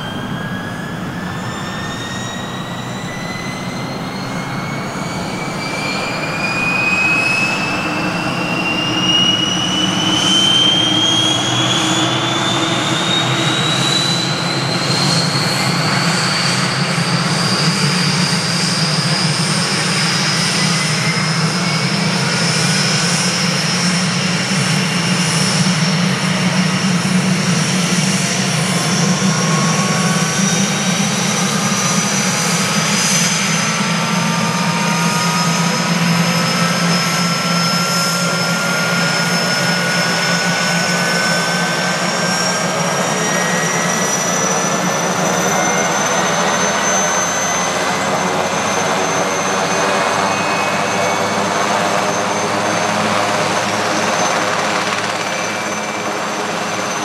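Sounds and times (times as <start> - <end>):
helicopter engine and rotor rumble: 0.0 - 57.0
helicopter turbine whine: 0.0 - 57.0.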